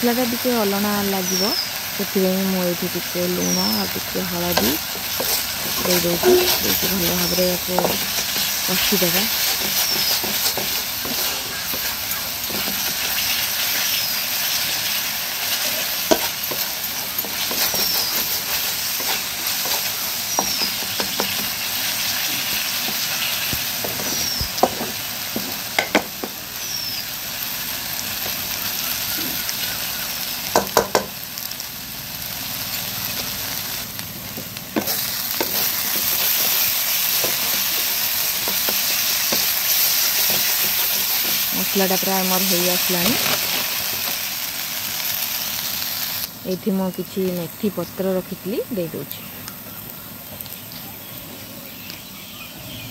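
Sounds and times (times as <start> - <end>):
masala sizzling in oil: 0.0 - 52.9.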